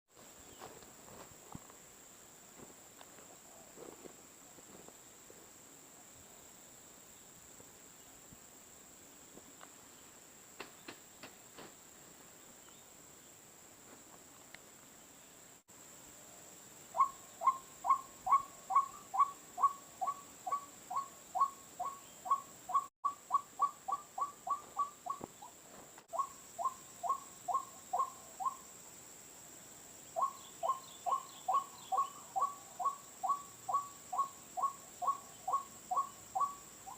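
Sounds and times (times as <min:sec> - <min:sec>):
high insect drone: 0:00.2 - 0:36.9.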